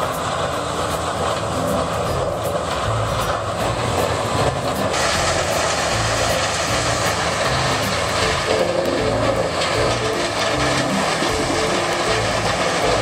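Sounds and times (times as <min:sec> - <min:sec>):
tub grinder grinding brush: 0:00.0 - 0:13.0.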